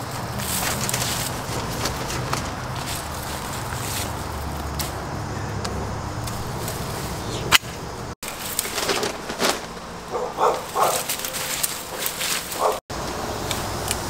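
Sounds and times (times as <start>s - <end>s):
leaves and branches rustling: 0.0s - 14.0s
loppers snapping stems: 0.1s - 5.0s, 5.6s - 6.8s, 7.4s - 12.8s.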